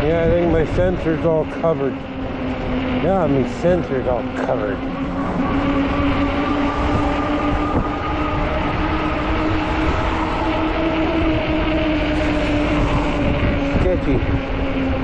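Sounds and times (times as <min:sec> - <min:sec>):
electric motor whining: 0:00.0 - 0:15.0
wind and tyre noise: 0:00.0 - 0:15.0.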